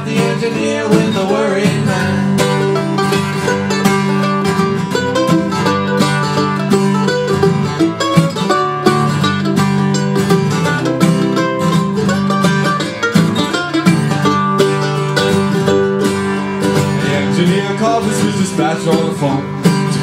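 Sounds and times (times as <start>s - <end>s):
acoustic guitar: 0.0s - 20.0s
mandolin picking: 0.0s - 20.0s.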